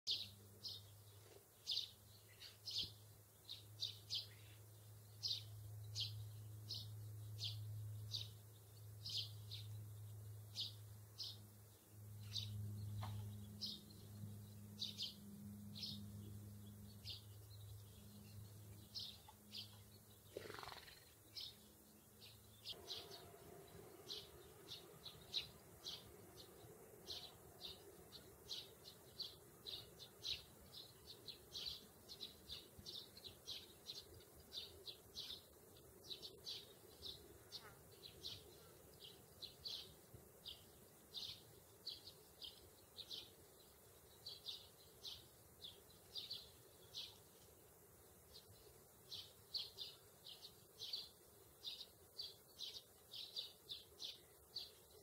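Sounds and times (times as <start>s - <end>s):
low steady hum: 0.1s - 20.4s, 21.0s - 55.0s
small bird chirping: 0.1s - 55.0s.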